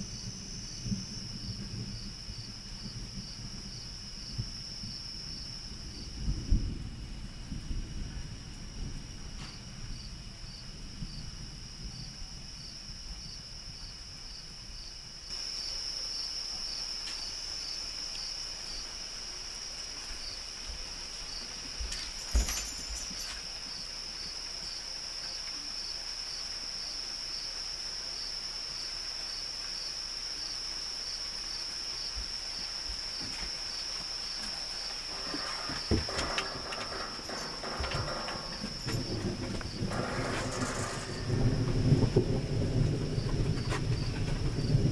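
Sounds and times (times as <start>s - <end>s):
night insects chirring: 0.0s - 44.9s.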